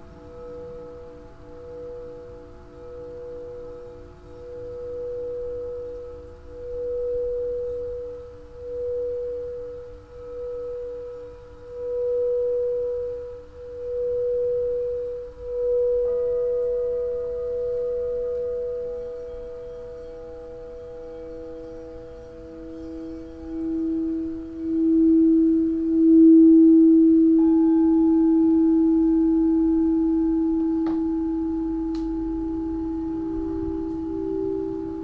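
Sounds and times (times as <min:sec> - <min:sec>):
singing bowls ringing: 0:00.0 - 0:35.0.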